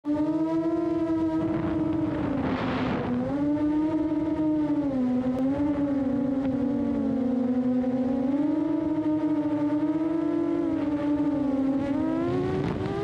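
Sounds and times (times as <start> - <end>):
drone motors whining: 0.1 - 13.0.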